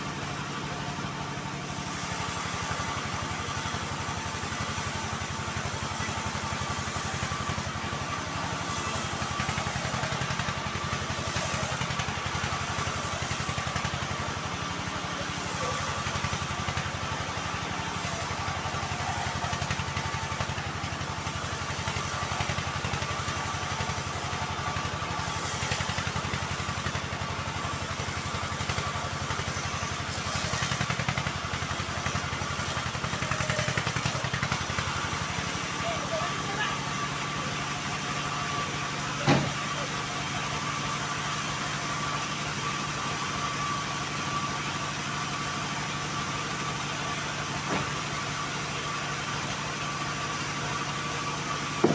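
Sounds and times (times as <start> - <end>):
bandsaw mill drone: 0.0 - 51.9.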